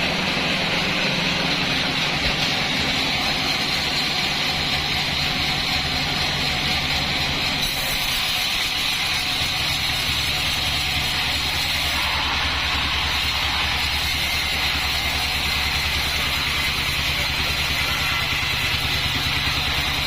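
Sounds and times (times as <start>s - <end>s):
sawmill machine hum: 0.0s - 20.0s.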